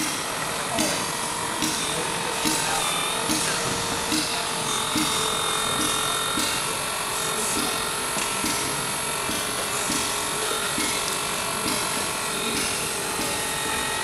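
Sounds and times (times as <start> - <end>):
chatter of busy hall: 0.0 - 14.0
electric drive whine: 0.0 - 14.0.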